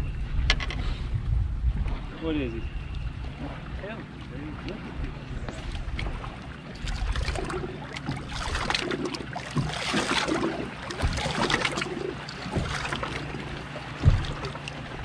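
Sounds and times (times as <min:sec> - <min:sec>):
wind buffeting microphone: 0:00.0 - 0:08.8, 0:09.5 - 0:15.0
steady low hum: 0:00.0 - 0:15.0
water lapping against boat hull: 0:00.3 - 0:15.0.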